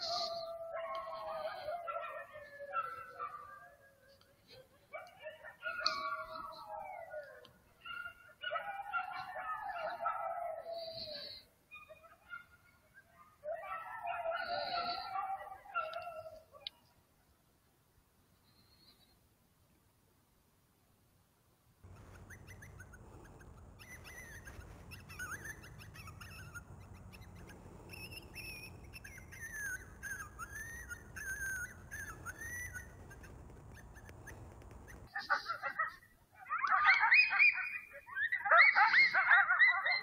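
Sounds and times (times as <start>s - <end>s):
coyote howling and yipping: 0.0s - 16.8s, 21.9s - 40.0s.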